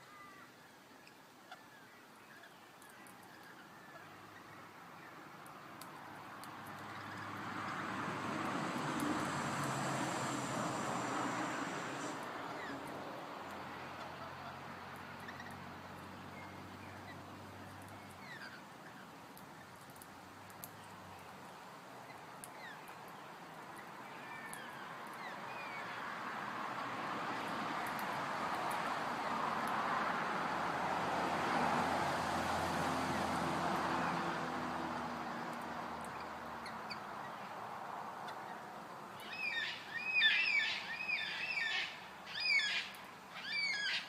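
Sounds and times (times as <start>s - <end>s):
birds chirping: 0.0s - 29.9s, 32.8s - 44.0s
vehicles passing: 2.7s - 44.0s.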